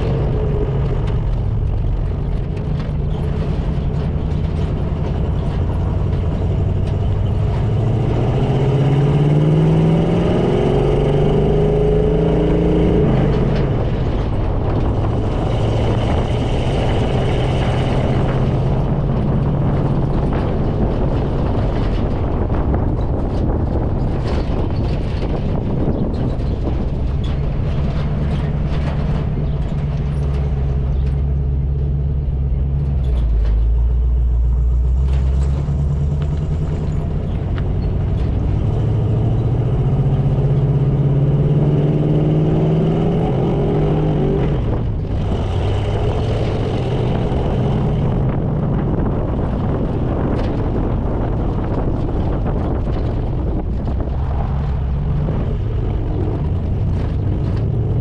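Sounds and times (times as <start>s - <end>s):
truck engine accelerating: 0.0s - 58.0s.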